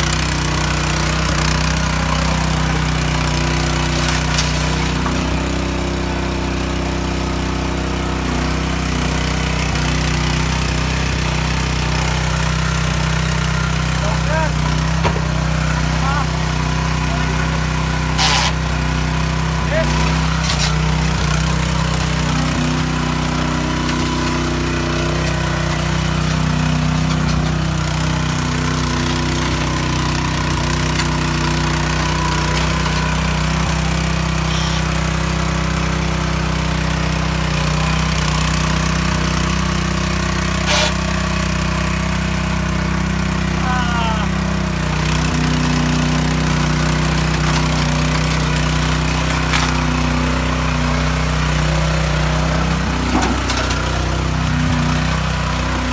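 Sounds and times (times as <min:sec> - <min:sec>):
tiller engine running: 0:00.0 - 0:55.9
tines churning wet concrete: 0:00.0 - 0:55.9.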